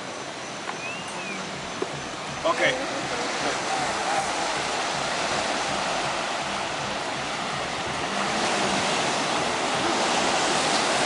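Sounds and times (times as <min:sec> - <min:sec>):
campfire flames hissing: 0:00.0 - 0:11.0.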